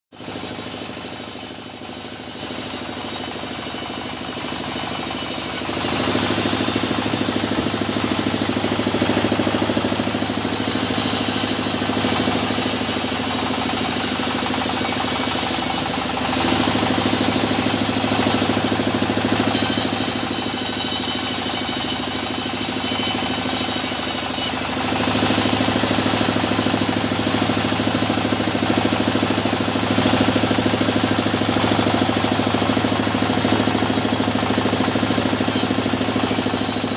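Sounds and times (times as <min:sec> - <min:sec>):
sawmill sawing logs: 0:00.1 - 0:36.9.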